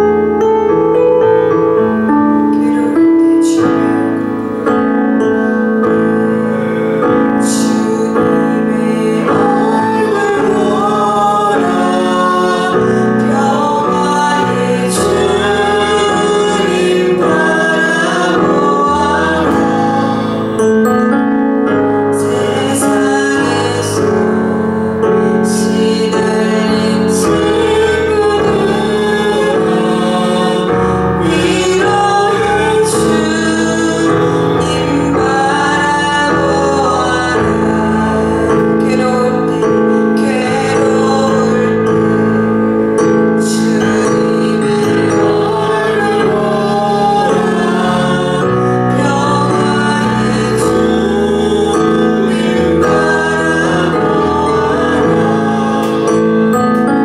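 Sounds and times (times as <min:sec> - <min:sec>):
piano keyboard accompaniment: 0:00.0 - 0:57.0
women singing worship song: 0:02.5 - 0:04.3, 0:06.2 - 0:20.8, 0:22.0 - 0:57.0.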